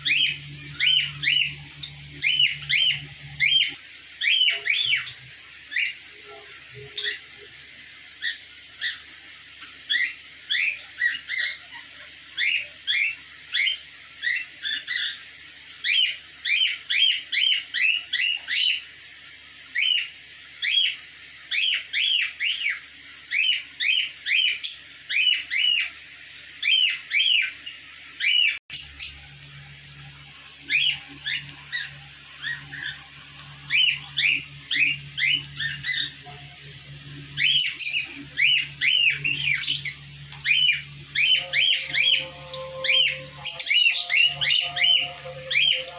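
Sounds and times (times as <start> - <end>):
parrots chirping: 0.0 - 7.5, 8.1 - 18.9, 19.7 - 29.4, 30.0 - 45.9.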